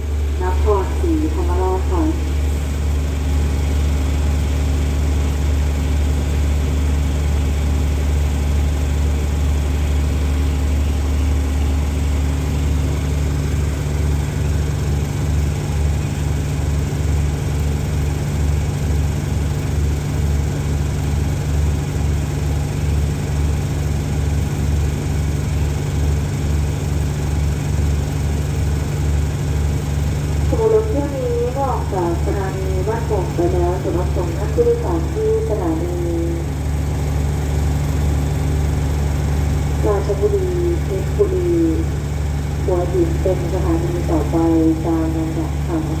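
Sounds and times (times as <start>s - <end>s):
train diesel engine idling: 0.0s - 46.0s.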